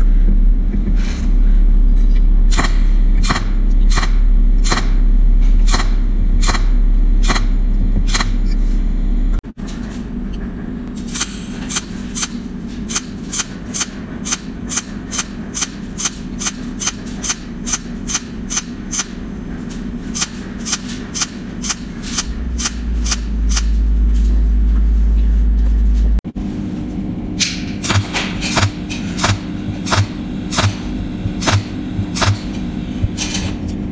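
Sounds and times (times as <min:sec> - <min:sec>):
steady machine hum: 0:00.0 - 0:33.9.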